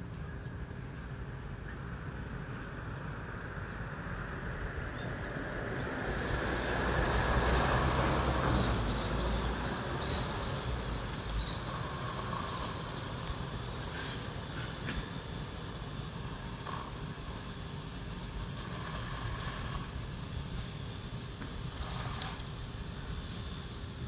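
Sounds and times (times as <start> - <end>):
small birds chirping: 1.5 - 24.0.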